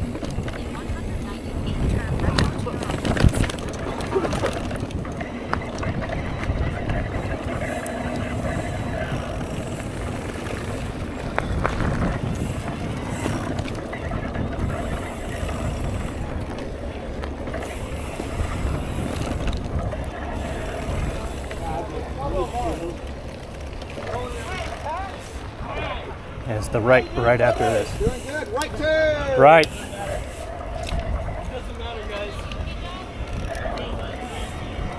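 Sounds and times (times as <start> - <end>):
wind on microphone: 0.0 - 24.0, 25.3 - 28.4, 29.1 - 34.9
bike tyre and frame rumble: 0.0 - 34.9.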